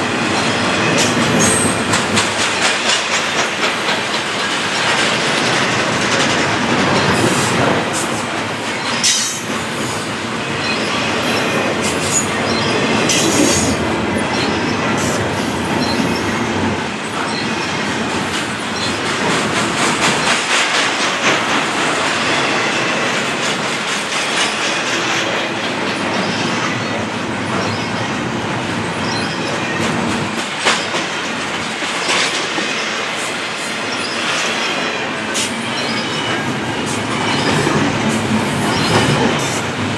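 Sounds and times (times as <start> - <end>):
freight train wheels clicking: 0.0 - 39.9.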